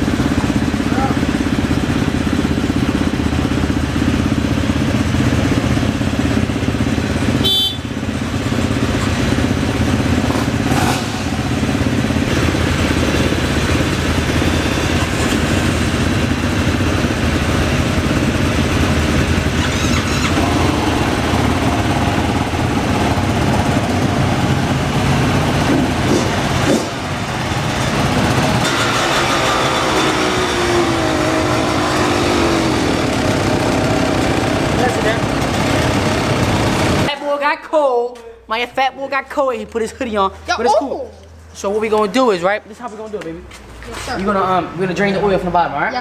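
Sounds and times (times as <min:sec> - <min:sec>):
dirt bike and quad engines running: 0:00.0 - 0:37.5.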